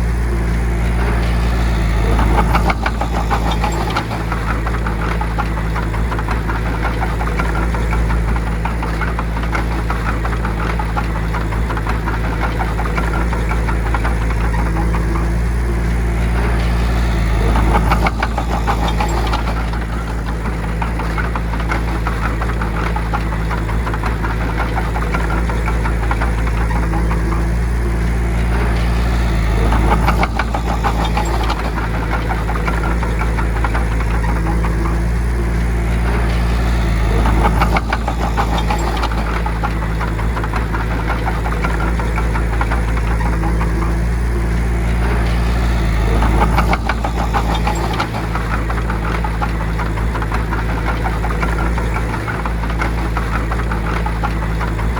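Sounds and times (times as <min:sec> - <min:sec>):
bulldozer diesel engine running: 0:00.0 - 0:54.9
metallic clatter: 0:00.0 - 0:54.9.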